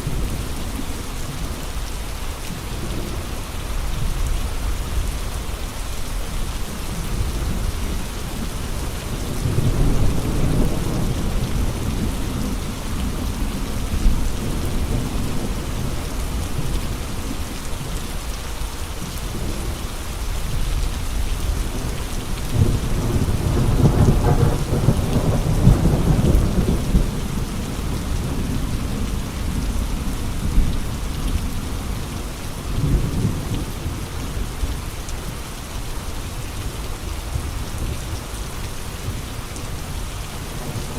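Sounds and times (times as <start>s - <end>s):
steady rain: 0.0s - 40.9s
wind: 0.0s - 40.9s.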